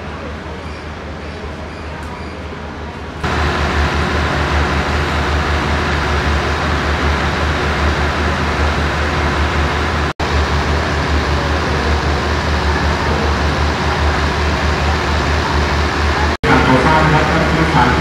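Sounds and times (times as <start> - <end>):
train engine idling: 3.2 - 18.0.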